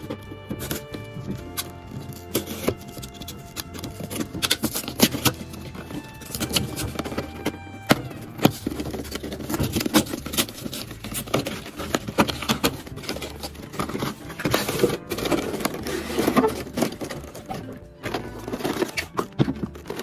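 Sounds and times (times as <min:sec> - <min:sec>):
cardboard ripping: 0:00.0 - 0:20.0
paper tearing and crackling: 0:00.0 - 0:20.0
plastic tray sliding out of box: 0:00.0 - 0:20.0
sharp clicks and scrapes: 0:00.0 - 0:20.0.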